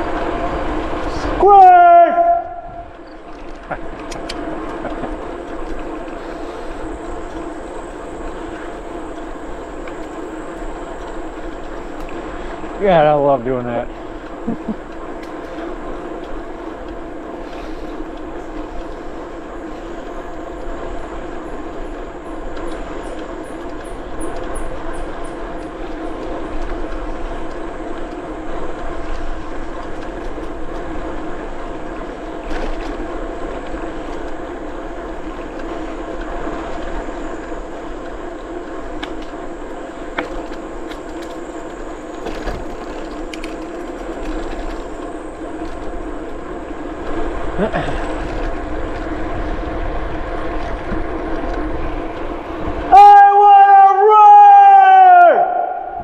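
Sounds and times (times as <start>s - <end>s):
bicycle tyres rolling on trail: 0.0s - 56.0s
bike clicks and rattles: 2.8s - 53.8s.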